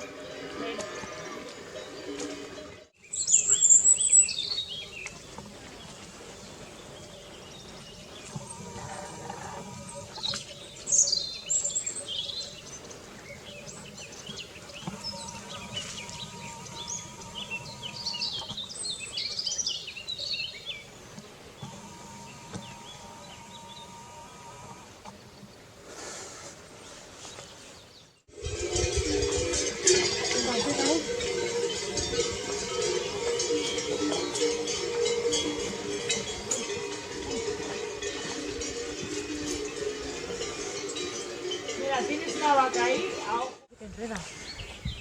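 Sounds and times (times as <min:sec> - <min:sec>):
birds chirping and singing: 0:00.0 - 0:25.7, 0:26.8 - 0:45.0
countryside background noise: 0:00.0 - 0:45.0.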